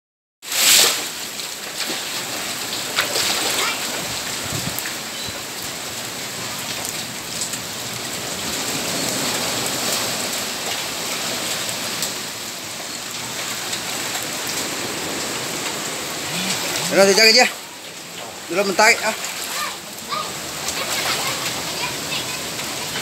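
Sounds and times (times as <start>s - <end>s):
rain on water: 0.4s - 23.0s.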